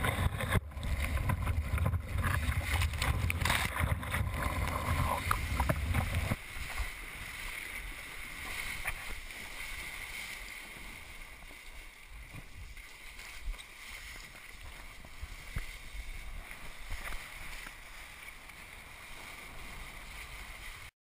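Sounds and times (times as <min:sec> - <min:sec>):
rush of water and wind: 0:00.0 - 0:20.9.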